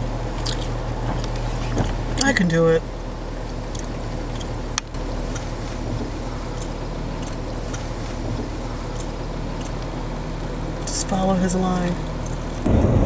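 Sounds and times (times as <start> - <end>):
engine running low: 0.0 - 13.0.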